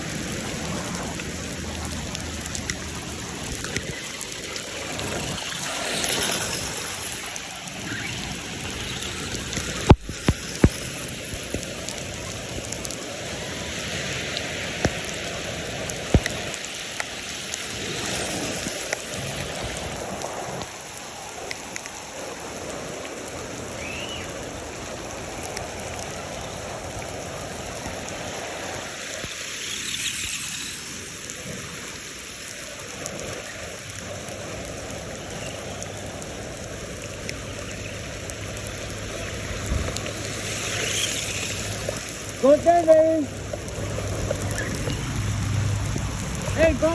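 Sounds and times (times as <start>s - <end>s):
rain and water running in gutter: 0.0s - 46.9s.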